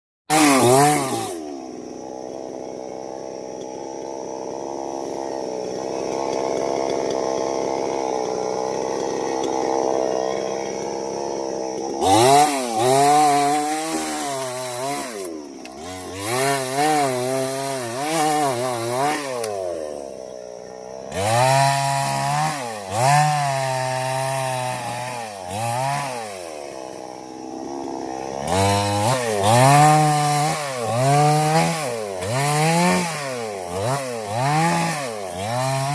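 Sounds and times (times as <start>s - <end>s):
chainsaw running: 0.3s - 35.9s.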